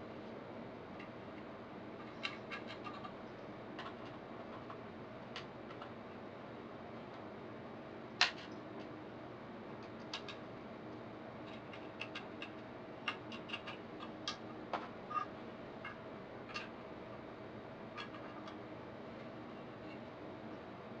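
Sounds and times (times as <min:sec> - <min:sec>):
faint background hum: 0:00.0 - 0:21.0.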